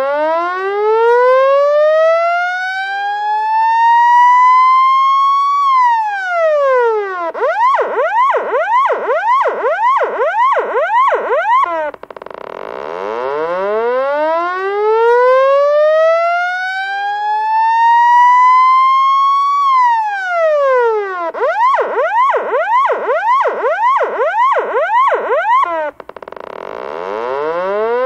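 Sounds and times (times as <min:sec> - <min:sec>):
police siren wail and yelp: 0:00.0 - 0:26.1, 0:27.1 - 0:28.0.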